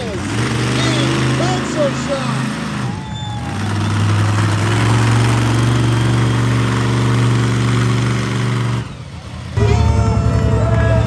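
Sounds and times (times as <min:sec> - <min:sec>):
truck engine idling loudly: 0:00.0 - 0:11.0.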